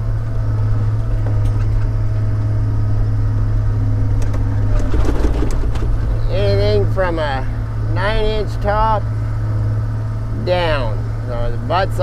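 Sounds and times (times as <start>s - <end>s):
diesel engine low drone: 0.0s - 12.0s.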